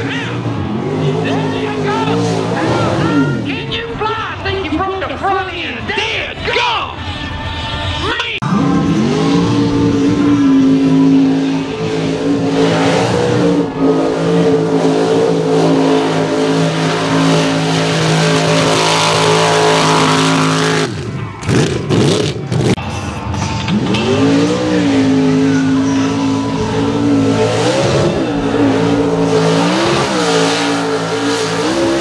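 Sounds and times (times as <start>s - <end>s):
truck engine revving up: 0.0s - 4.5s, 8.4s - 32.0s
truck engines at high revs: 0.0s - 5.9s, 7.0s - 32.0s.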